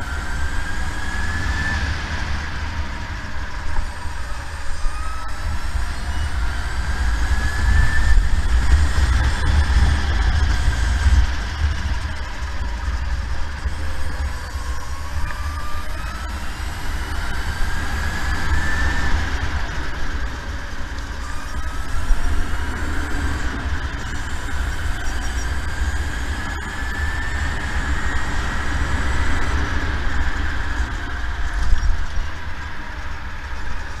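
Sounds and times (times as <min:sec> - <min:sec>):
electric kart motor whining: 0:00.0 - 0:34.0
wind rumble on microphone: 0:00.0 - 0:34.0.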